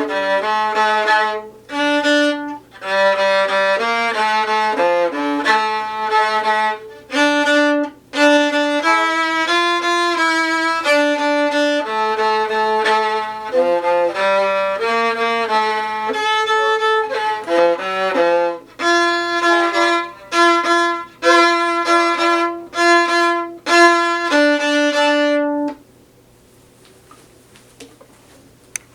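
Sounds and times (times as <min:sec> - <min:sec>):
solo viola playing bowed melody: 0:00.0 - 0:25.8.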